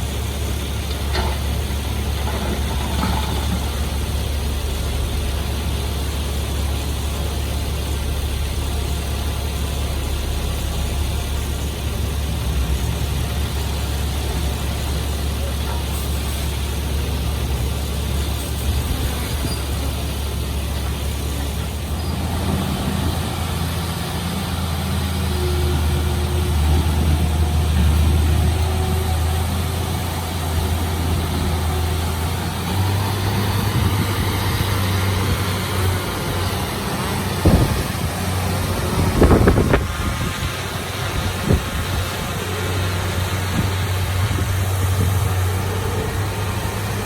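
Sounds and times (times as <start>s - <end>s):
heavy diesel engine running: 0.0s - 47.0s.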